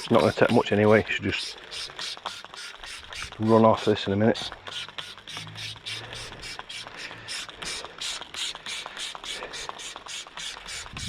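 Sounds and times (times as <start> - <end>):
short spritz of spray: 0.0 - 11.0.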